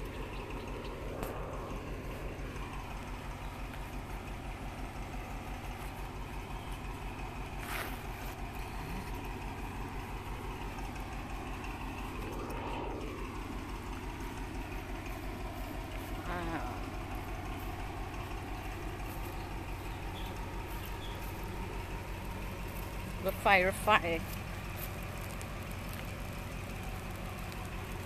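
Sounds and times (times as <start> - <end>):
distant diesel locomotive drone: 0.0 - 28.0.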